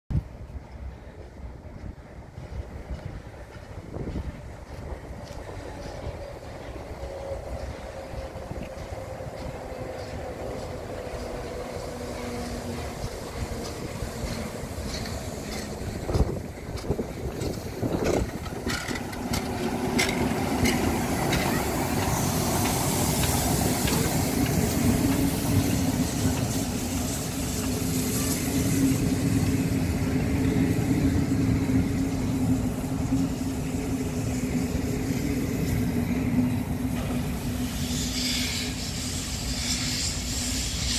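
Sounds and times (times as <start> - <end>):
steam locomotive exhaust beats: 0.1 - 40.9
coaches rumbling on track: 0.2 - 37.6
steam hissing: 5.5 - 40.9.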